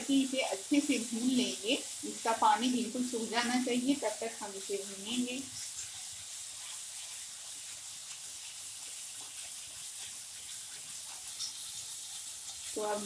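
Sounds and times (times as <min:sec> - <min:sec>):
food sizzling in oil: 0:00.0 - 0:13.0
spatula stirring in a pan: 0:00.0 - 0:13.0.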